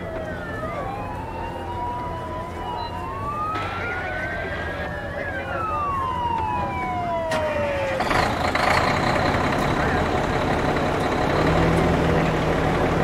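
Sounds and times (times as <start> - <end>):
fire truck sirens wailing: 0.0 - 13.0
low engine rumble: 0.0 - 13.0.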